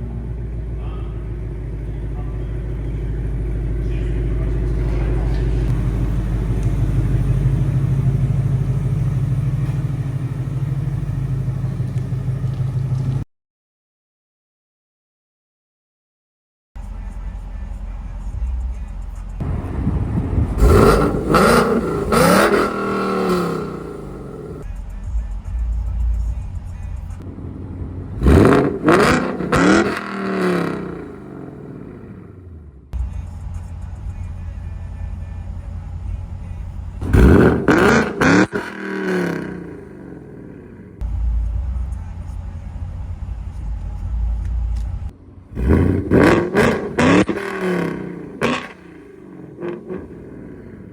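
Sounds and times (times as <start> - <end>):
rumbling car engine: 0.0 - 13.2, 16.8 - 50.9.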